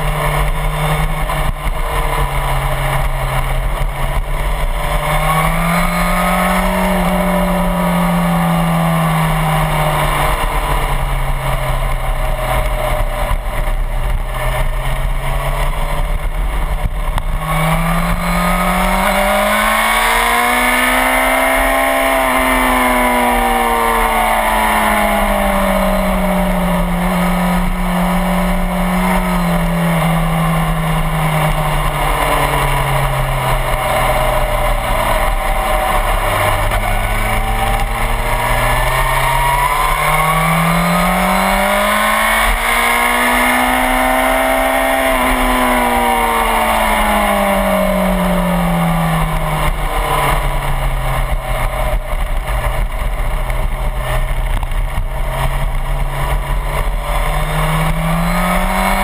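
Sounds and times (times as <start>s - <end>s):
motorcycle engine at speed: 0.0s - 59.0s.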